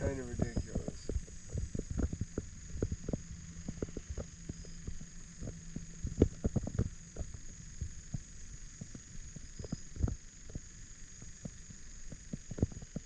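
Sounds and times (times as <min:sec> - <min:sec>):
faint high-pitched drone: 0:00.0 - 0:13.0.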